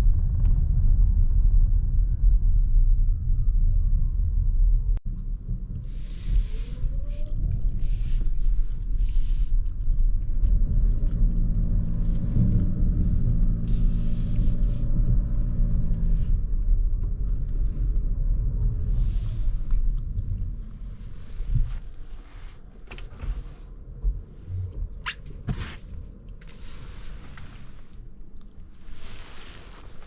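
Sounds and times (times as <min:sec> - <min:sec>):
road and tyre rumble: 0:00.0 - 0:30.0
car engine humming: 0:05.0 - 0:30.0.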